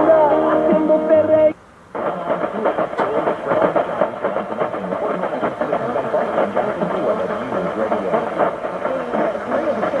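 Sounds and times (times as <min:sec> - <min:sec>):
garbled radio signal: 0:00.0 - 0:10.0
radio static: 0:00.0 - 0:10.0.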